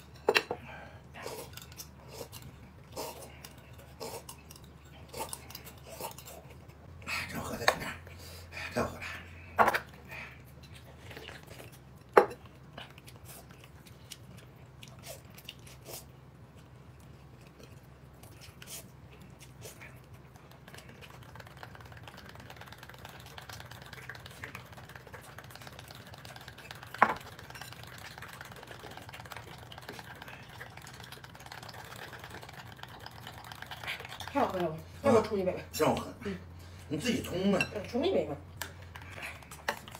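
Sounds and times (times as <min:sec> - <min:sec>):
faint eating sounds: 0:00.0 - 0:39.9.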